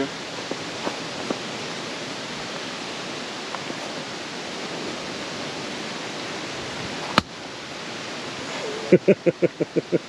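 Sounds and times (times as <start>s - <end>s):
steady outdoor rushing noise: 0.0s - 10.0s.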